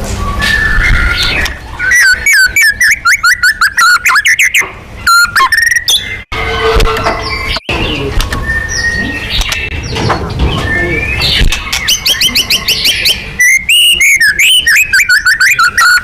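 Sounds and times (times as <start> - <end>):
bird singing chattering notes: 0.8 - 6.3, 7.2 - 16.0.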